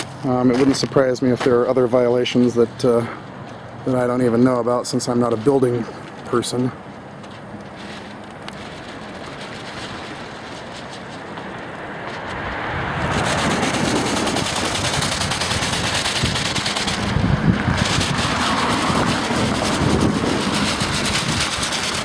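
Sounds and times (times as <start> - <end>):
wind gusting over microphone: 3.9 - 22.0.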